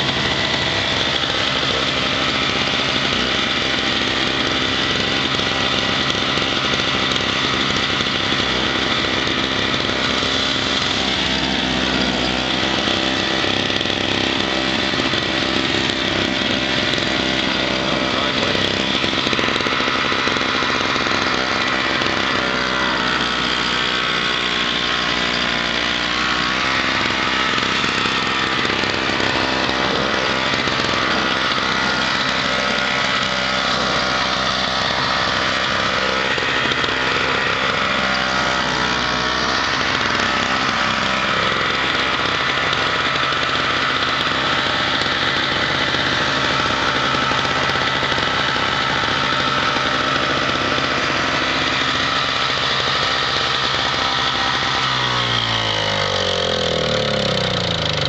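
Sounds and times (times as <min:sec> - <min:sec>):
snowblower engine running: 0:00.0 - 0:58.0.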